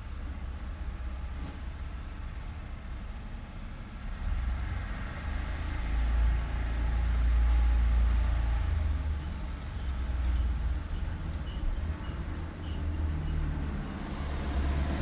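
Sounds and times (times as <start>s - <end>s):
vehicle passing with low rumble: 0.0s - 15.0s.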